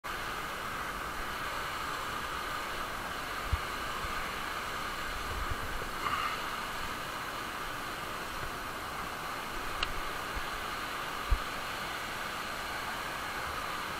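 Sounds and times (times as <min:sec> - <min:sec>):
river whitewater rushing: 0:00.1 - 0:13.9.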